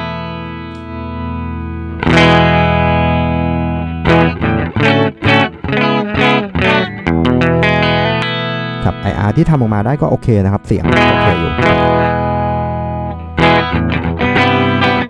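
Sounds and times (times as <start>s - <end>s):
electric guitar chords strummed: 0.0s - 15.0s.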